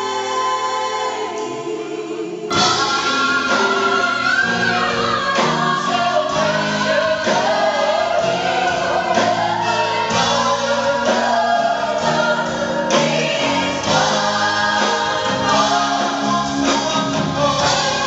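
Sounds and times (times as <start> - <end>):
gospel choir singing: 0.0 - 18.0
live band playing: 1.4 - 18.0.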